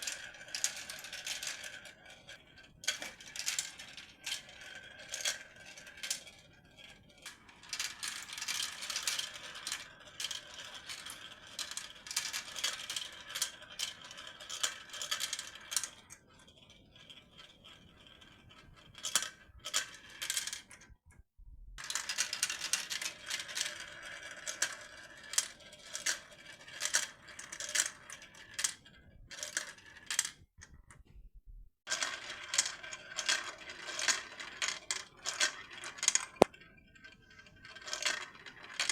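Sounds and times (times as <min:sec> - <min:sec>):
marbles clattering through marble run: 0:00.0 - 0:02.2, 0:02.8 - 0:06.4, 0:07.2 - 0:16.1, 0:17.0 - 0:20.9, 0:21.8 - 0:30.4, 0:31.9 - 0:38.9.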